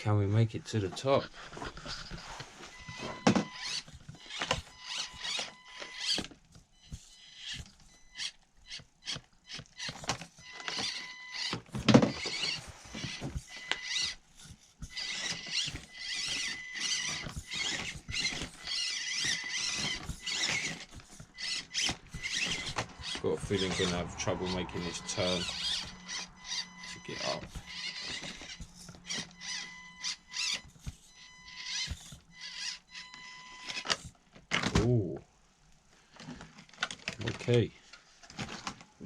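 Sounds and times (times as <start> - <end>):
small electric motor whining: 1.3 - 34.2.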